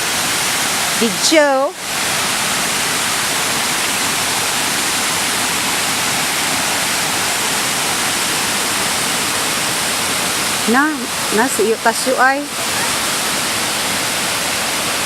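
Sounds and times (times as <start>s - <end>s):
water rushing down cascade: 0.0s - 15.0s.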